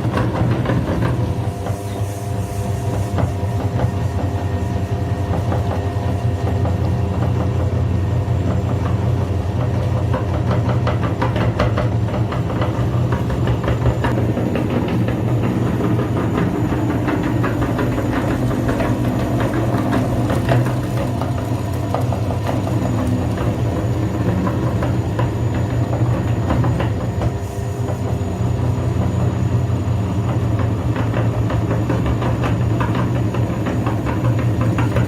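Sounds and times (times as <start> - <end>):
grinding machine motor hum: 0.0 - 35.0.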